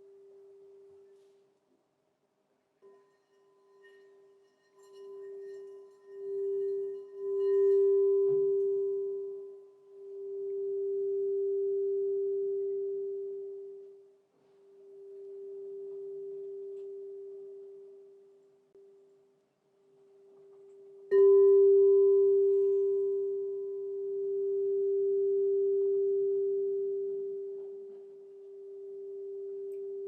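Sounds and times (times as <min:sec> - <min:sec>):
crystal singing bowl ringing: 0:02.8 - 0:18.9, 0:20.6 - 0:30.0.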